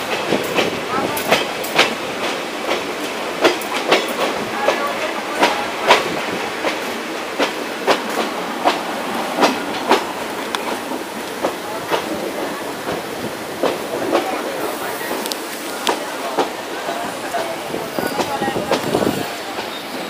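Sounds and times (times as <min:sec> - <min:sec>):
steady train rumble: 0:00.0 - 0:20.0
train wheels clacking over rail joints: 0:00.0 - 0:20.0.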